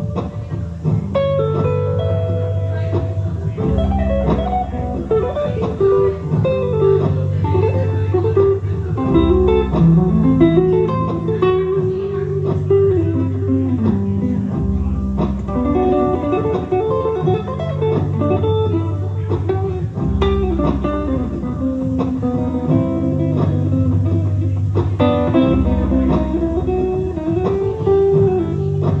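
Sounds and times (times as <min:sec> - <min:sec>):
guitar playing instrumental tune: 0:00.0 - 0:29.0.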